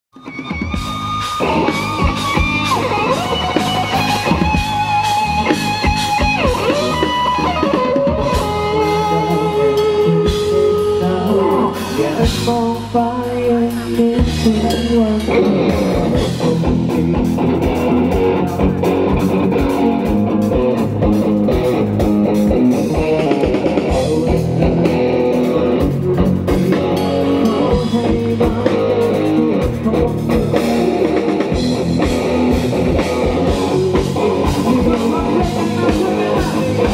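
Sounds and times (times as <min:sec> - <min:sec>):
bass: 0:00.1 - 0:36.9
drums: 0:00.1 - 0:36.9
electric guitar lead melody: 0:00.2 - 0:36.9.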